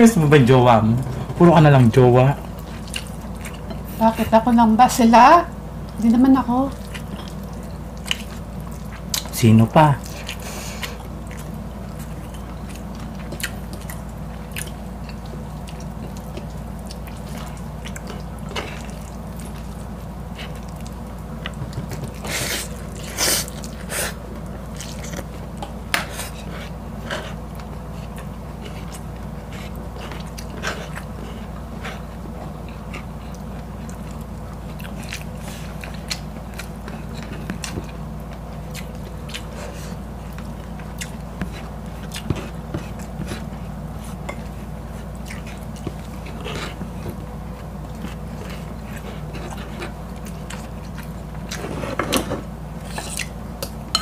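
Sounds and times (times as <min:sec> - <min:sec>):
steady low hum: 0:00.0 - 0:54.0
mouth chewing and biting food: 0:02.4 - 0:03.9, 0:06.7 - 0:09.4, 0:10.0 - 0:53.9.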